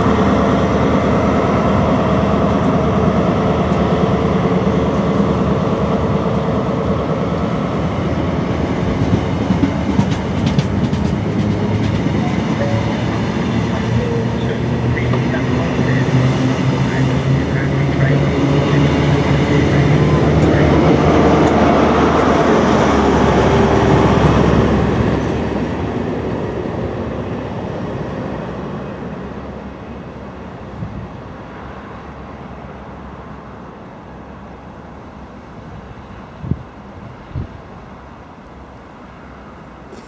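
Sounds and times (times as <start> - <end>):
diesel engine drone: 0.0 - 40.0
train coaches rumbling over rails: 0.0 - 40.0.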